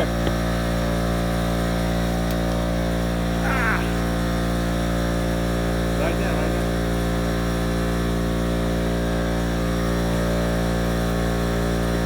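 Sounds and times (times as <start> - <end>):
motor humming steadily: 0.0 - 12.0.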